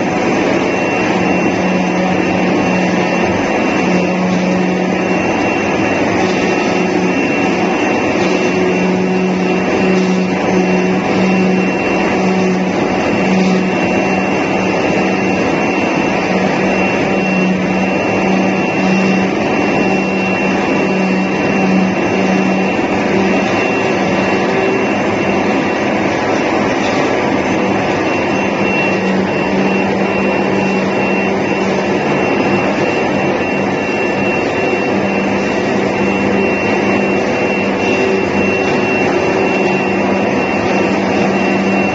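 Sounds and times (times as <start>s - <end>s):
thin high whine: 0.0s - 41.9s
vacuum blower rushing: 0.0s - 41.9s.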